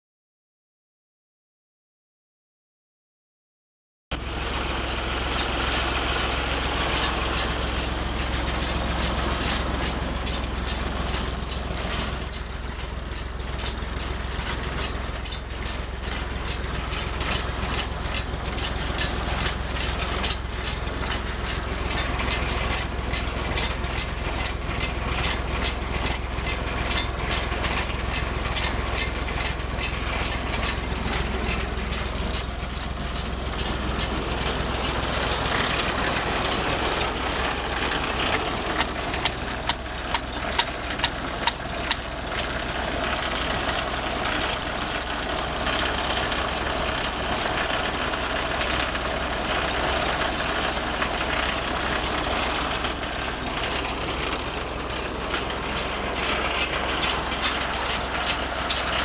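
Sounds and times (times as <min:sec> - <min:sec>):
tractor engine low drone: 0:04.1 - 0:59.0
baler metallic rattle and clicking: 0:04.2 - 0:59.0.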